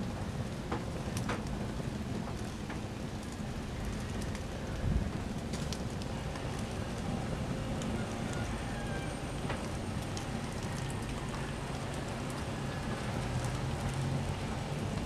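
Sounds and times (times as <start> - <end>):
fire crackles and pops: 0.0 - 15.0
flames rushing: 0.0 - 15.0.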